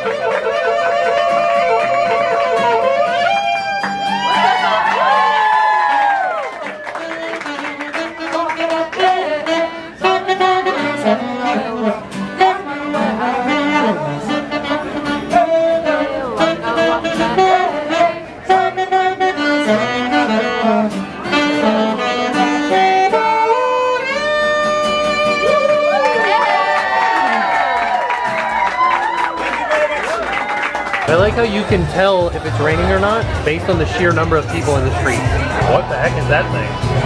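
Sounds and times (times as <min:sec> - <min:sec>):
guitar: 0:00.0 - 0:37.0
saxophone: 0:00.0 - 0:37.0.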